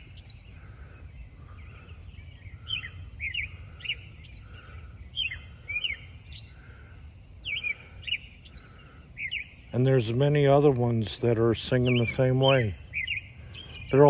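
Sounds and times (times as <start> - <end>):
birds singing softly: 0.0 - 14.0
songbird chirping: 0.0 - 14.0.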